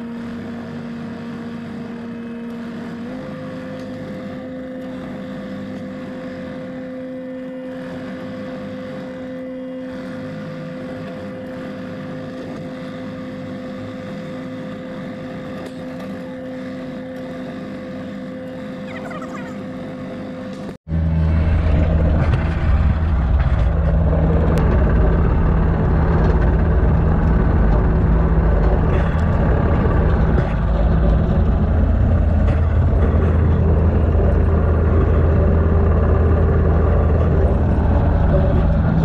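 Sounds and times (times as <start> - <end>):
excavator diesel engine: 0.0 - 39.0
hydraulic whine: 0.0 - 39.0.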